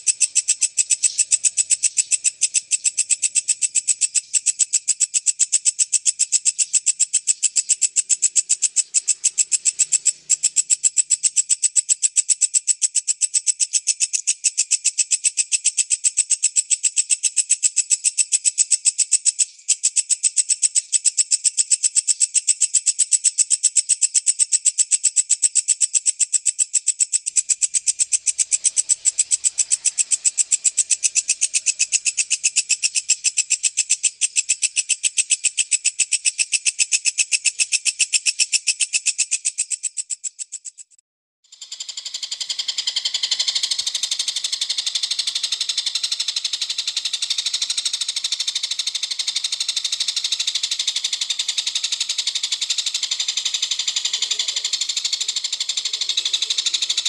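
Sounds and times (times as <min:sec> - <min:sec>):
insect chirping: 0:00.0 - 0:57.0.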